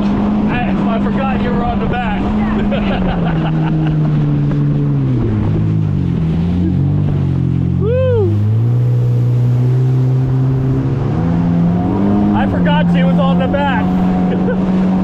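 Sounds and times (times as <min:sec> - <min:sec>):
jet ski engine running: 0:00.0 - 0:15.0
wind and water noise: 0:00.0 - 0:15.0.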